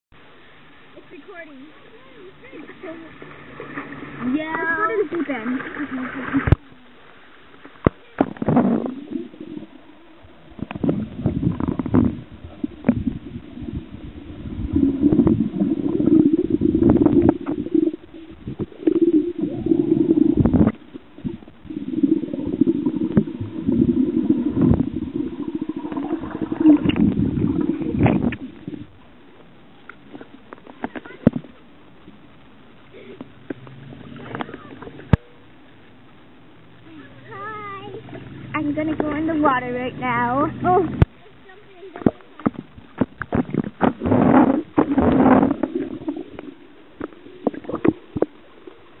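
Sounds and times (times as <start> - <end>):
muffled underwater gurgling: 1.1 - 7.2, 7.8 - 49.0.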